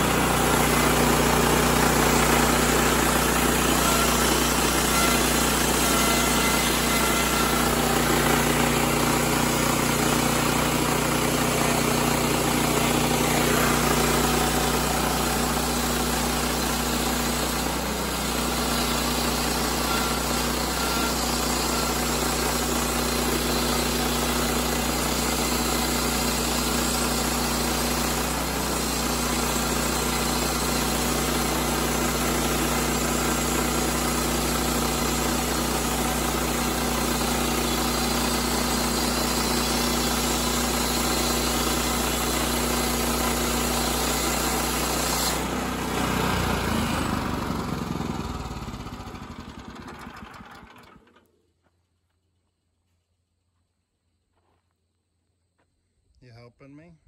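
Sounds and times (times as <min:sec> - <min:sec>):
band blade sawing wood: 0:00.0 - 0:49.1
gasoline engine running: 0:00.0 - 0:51.2.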